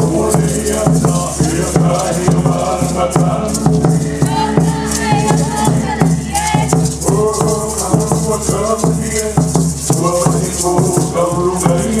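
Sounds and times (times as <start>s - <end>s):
bass line: 0.0s - 12.0s
hula music: 0.0s - 12.0s
rattle beating steadily: 0.0s - 12.0s.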